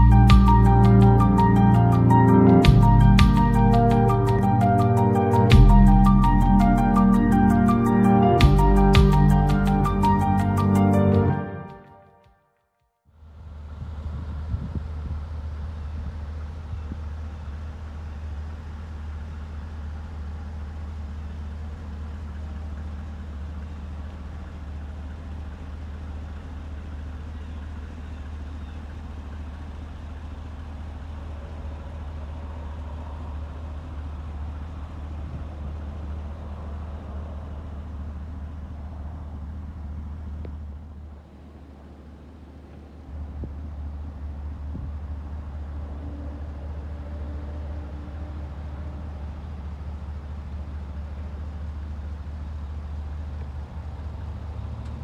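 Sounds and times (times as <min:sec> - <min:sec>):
truck engine idling: 0:00.0 - 0:11.7, 0:13.2 - 0:55.0.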